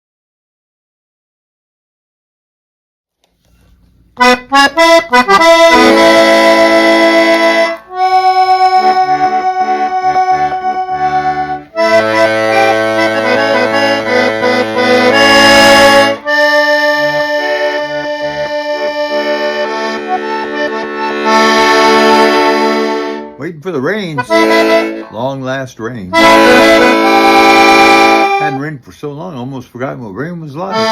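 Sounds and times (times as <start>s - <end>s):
accordion playing chords: 3.6s - 30.9s.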